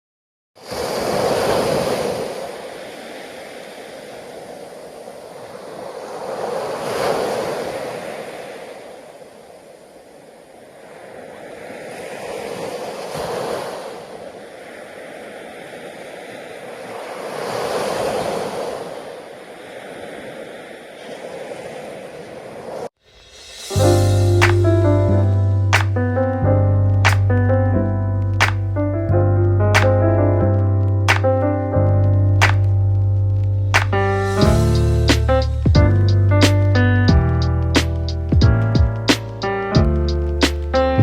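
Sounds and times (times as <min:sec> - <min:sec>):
rush of water: 0:00.6 - 0:27.4, 0:29.6 - 0:40.8
waves breaking: 0:00.6 - 0:41.0.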